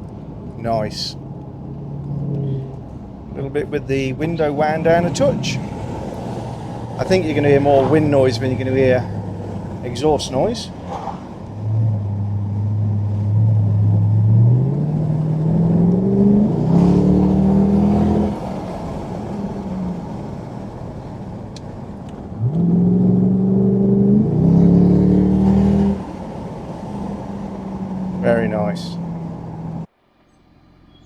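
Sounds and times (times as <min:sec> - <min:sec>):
car engine accelerating: 0:01.6 - 0:29.9.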